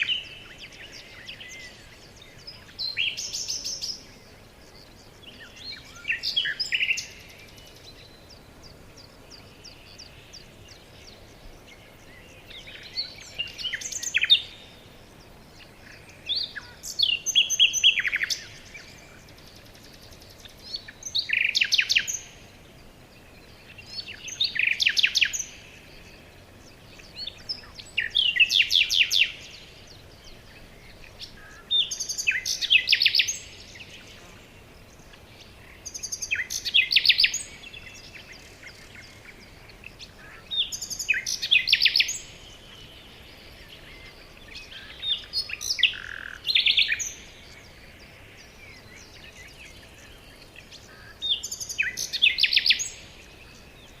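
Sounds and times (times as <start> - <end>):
songbird trilling: 0.0 - 22.4, 23.3 - 54.0
faint background hiss: 0.0 - 54.0.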